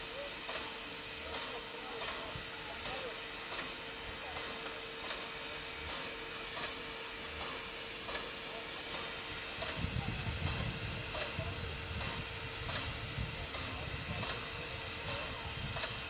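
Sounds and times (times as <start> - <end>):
steam locomotive hissing: 0.0 - 16.0.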